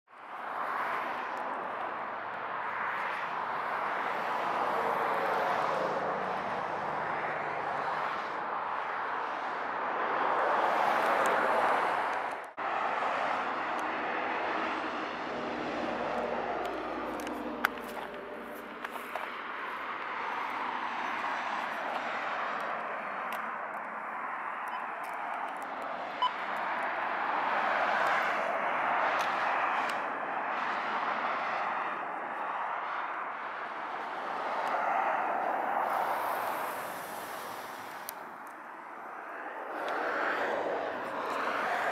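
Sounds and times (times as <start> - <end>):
vehicle passing rushing noise: 0.6 - 38.1.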